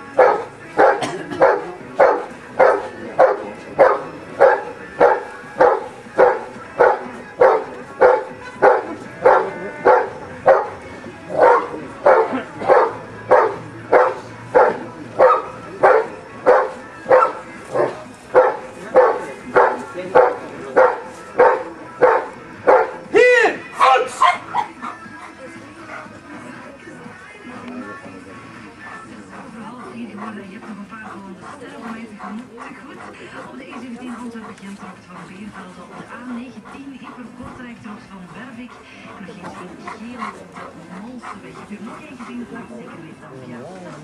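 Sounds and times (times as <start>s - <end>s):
dog barking steadily: 0.0s - 23.1s, 23.8s - 26.2s, 28.7s - 44.0s.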